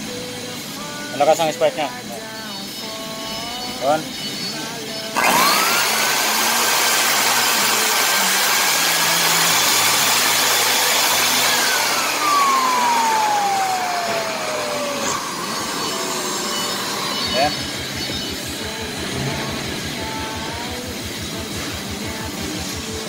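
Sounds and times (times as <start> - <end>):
vacuum fan motor whine: 0.0 - 23.0.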